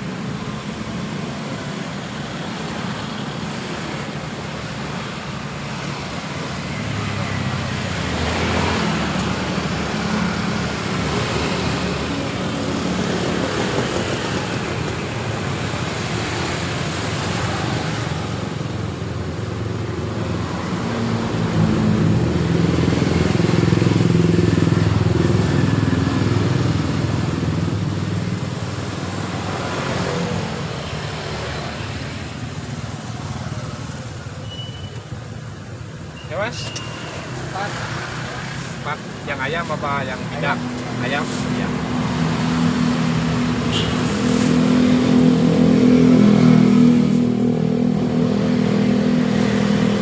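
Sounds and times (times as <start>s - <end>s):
motorcycles: 0.0s - 50.0s
road traffic passing: 0.0s - 50.0s
loud engine passing: 6.5s - 34.2s, 37.2s - 50.0s.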